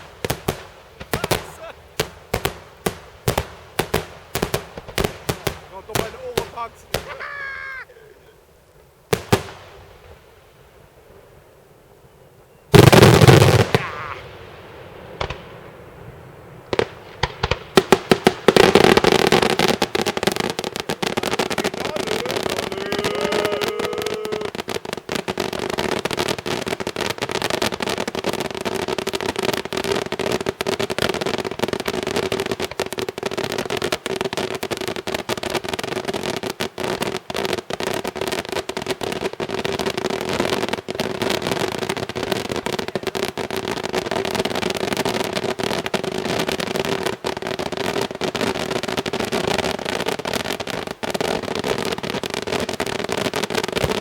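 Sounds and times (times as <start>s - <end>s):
rapid-fire firework barrage: 0.0s - 7.8s, 12.7s - 54.0s
firework bangs: 0.0s - 7.9s, 9.1s - 11.3s, 12.7s - 54.0s.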